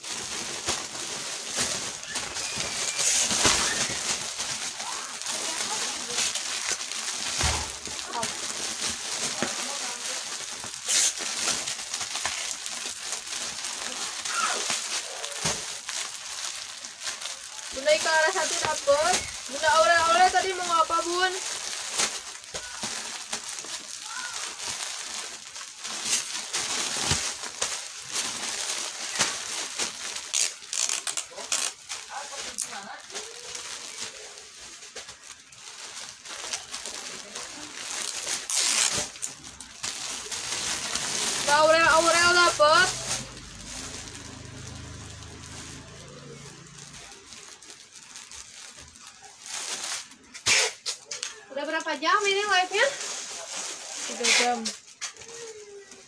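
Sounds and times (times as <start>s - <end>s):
rustling and crackling: 0.0s - 56.0s.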